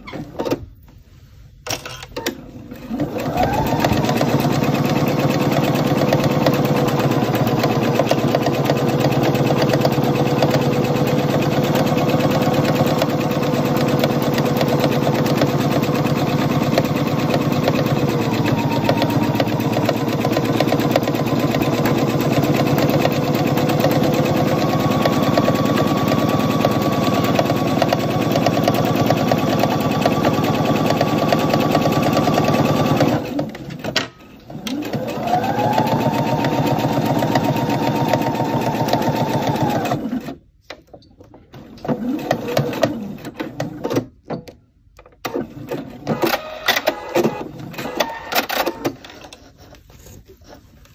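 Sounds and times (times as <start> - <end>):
sewing machine stitching: 2.2 - 40.8, 41.4 - 44.2, 45.1 - 50.6.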